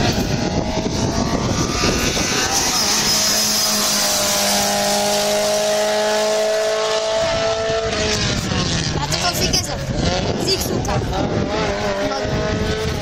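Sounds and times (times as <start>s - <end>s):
rally car engine approaching: 0.0s - 13.0s.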